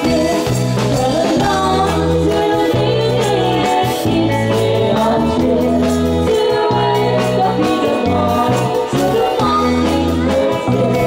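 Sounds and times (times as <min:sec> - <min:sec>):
drum kit: 0:00.0 - 0:11.0
electric bass guitar: 0:00.0 - 0:11.0
women singing together: 0:00.0 - 0:11.0.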